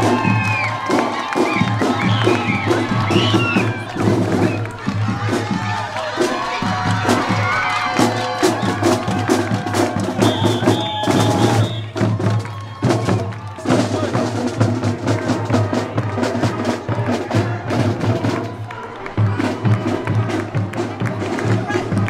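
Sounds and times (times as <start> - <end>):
marching drums beating: 0.0 - 22.0.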